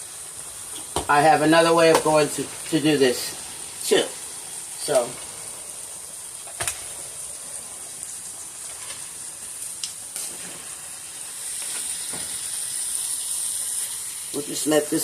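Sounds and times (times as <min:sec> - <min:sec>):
beef sizzling in a pan: 0:00.0 - 0:15.0.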